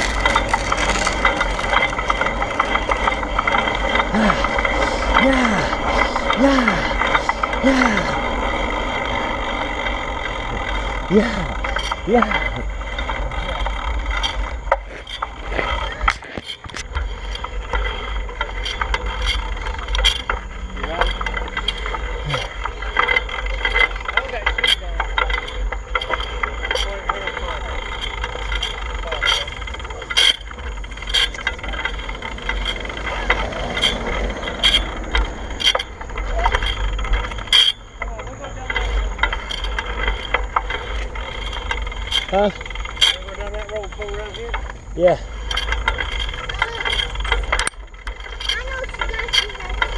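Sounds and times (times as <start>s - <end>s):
bicycle clicks and rattles: 0.0s - 49.9s.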